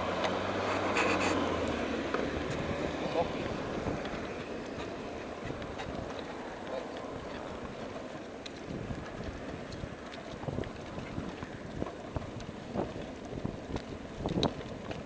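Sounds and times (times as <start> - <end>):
bicycle rolling rumble: 0.0 - 15.0
wind buffeting microphone: 1.8 - 15.0.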